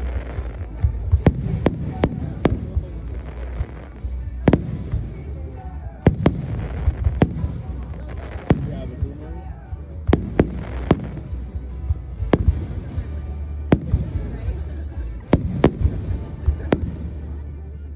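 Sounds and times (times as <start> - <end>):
low rumble: 0.0 - 17.9.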